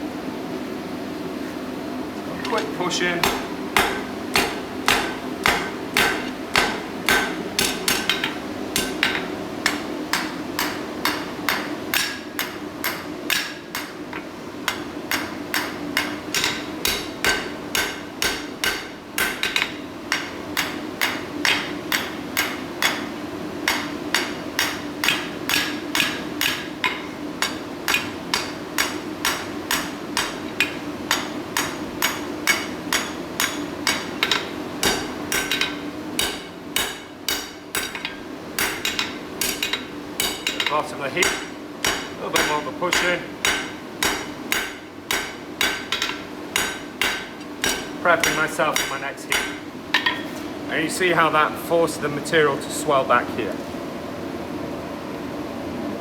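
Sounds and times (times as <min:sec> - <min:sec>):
hammer striking hot steel: 0:03.2 - 0:50.3.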